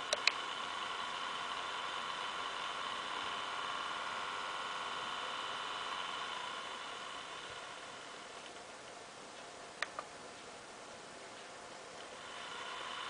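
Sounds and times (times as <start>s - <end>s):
laptop cooling fan whirring: 0.0s - 13.0s.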